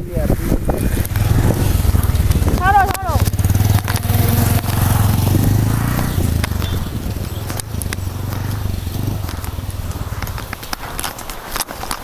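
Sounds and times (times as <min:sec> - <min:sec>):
motorcycle engine running: 0:00.0 - 0:11.5
sharp clicks: 0:00.8 - 0:12.0.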